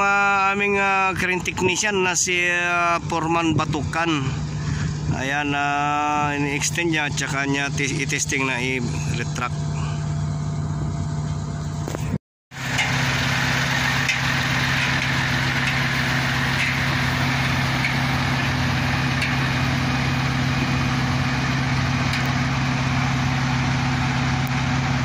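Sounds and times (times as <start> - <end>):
crane diesel engine humming: 4.2 - 25.0.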